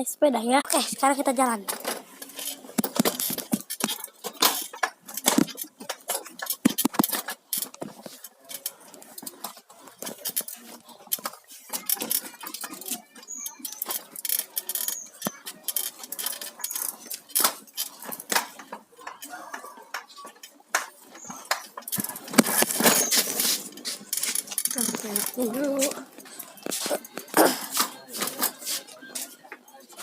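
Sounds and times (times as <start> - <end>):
bicycle metallic clinks and rattles: 1.7 - 19.3, 21.2 - 28.7.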